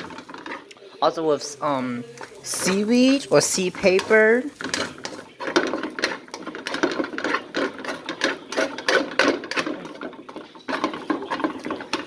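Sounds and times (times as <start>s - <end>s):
spatula scraping and stirring in pan: 0.0s - 12.0s.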